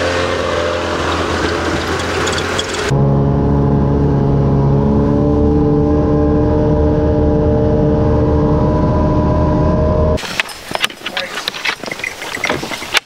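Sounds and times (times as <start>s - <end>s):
snowmobile engine running: 0.0s - 12.9s.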